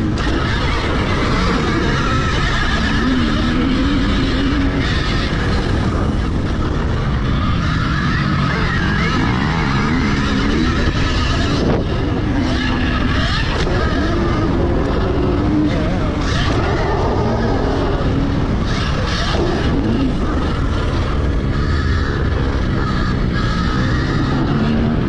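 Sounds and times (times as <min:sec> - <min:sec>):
electric motorbike motor whine: 0:00.0 - 0:25.0
wind rush on microphone: 0:00.0 - 0:25.0.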